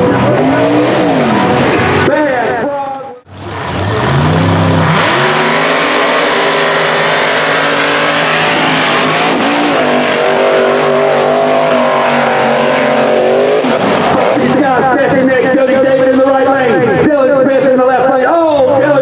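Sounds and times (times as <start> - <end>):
truck engine running at high pitch: 0.0 - 18.0.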